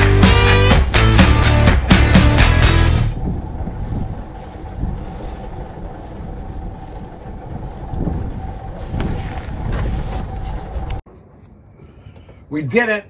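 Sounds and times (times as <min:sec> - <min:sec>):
boat engine idling: 0:00.0 - 0:11.1.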